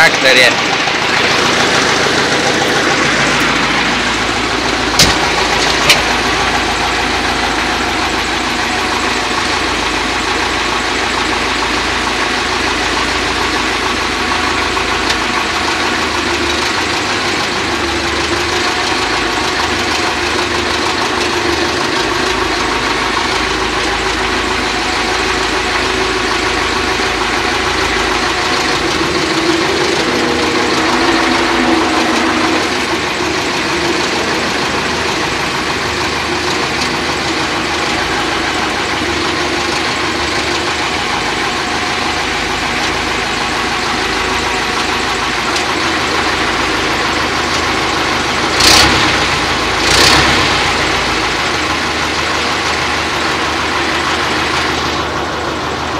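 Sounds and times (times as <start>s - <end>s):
tractor engine idling: 0.0s - 55.9s.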